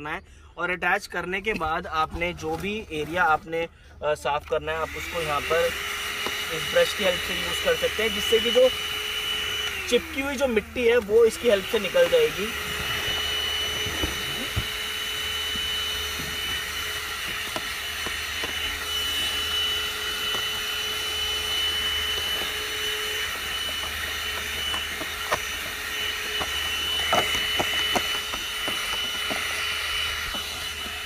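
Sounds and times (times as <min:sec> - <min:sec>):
handheld vacuum cleaner whining: 0:04.3 - 0:31.0.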